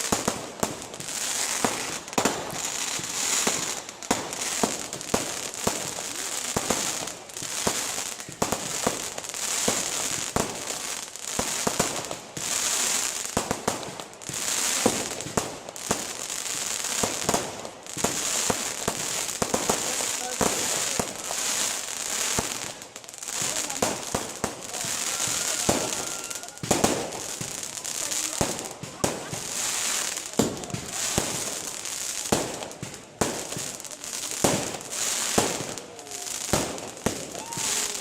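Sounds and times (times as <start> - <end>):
fireworks cracking and popping: 0.0 - 38.0
high hiss of fireworks: 0.0 - 38.0.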